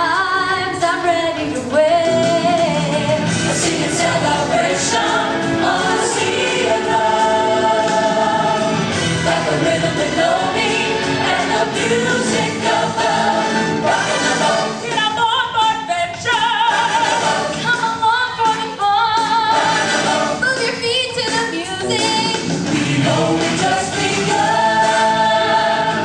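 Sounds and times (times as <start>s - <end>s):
ensemble singing show tune: 0.0s - 26.0s
musical accompaniment: 0.0s - 26.0s.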